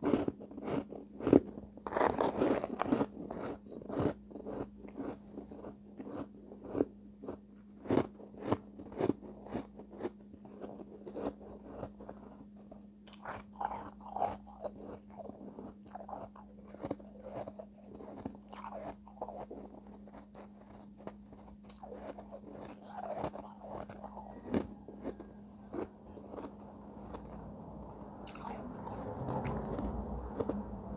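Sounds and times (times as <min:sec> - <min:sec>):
crunching and chewing ice: 0:00.0 - 0:30.9
steady low hum: 0:00.0 - 0:30.9.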